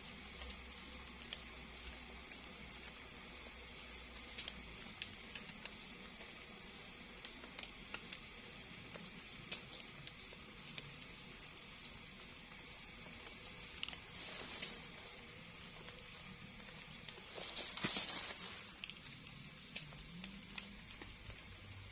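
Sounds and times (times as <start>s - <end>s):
steady high hiss: 0.0s - 21.9s.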